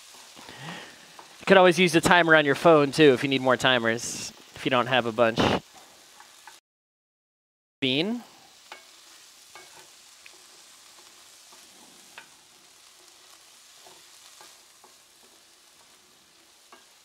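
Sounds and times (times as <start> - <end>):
faint frying sizzle: 0.0 - 6.6, 7.8 - 17.0.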